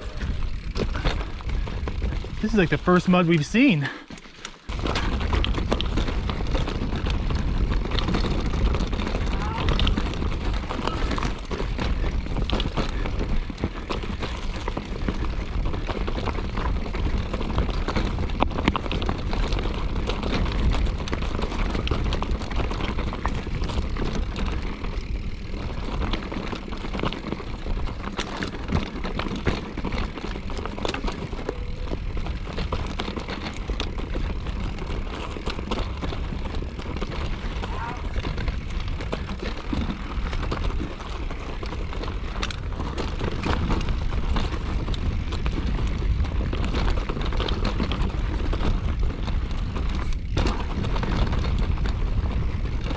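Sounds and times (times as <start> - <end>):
wind rumbling on microphone: 0.0 - 2.8, 4.7 - 52.9
bike clicks and rattles: 0.0 - 52.9.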